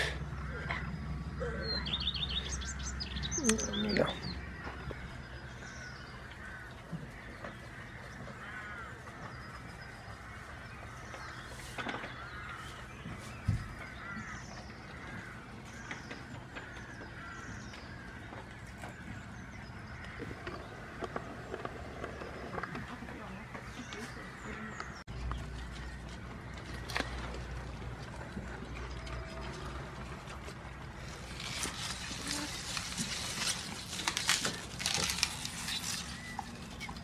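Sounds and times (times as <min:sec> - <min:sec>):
small birds chirping: 0:00.0 - 0:29.7, 0:30.9 - 0:37.0.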